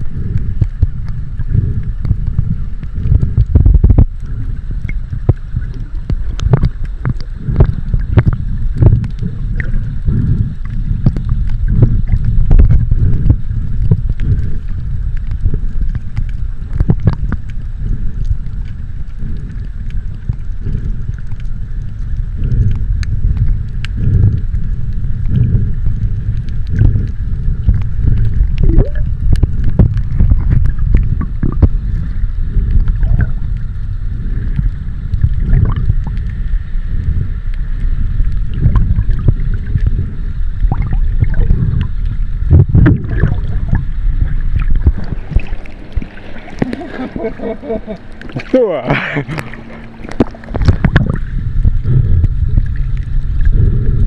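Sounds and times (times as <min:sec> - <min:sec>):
clicks and crackles underwater: 0:00.0 - 0:54.0
muffled rush of water: 0:00.0 - 0:54.0.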